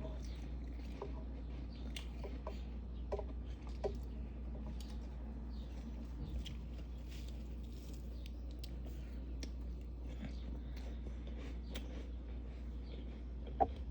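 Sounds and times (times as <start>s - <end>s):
chewing crunchy frost: 0.0s - 13.9s
steady low hum: 0.0s - 13.9s.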